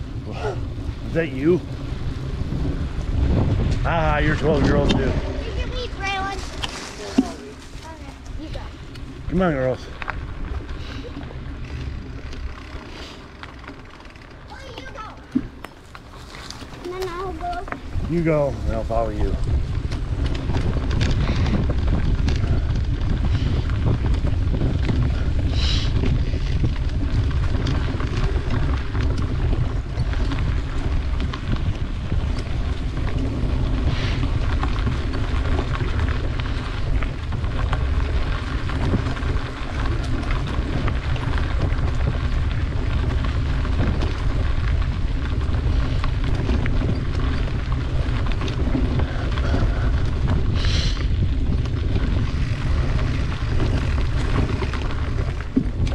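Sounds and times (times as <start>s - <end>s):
bike clicks and rattles: 0.0s - 55.9s
tyres rolling on leafy dirt: 0.0s - 55.9s
wind buffeting microphone: 0.0s - 55.9s.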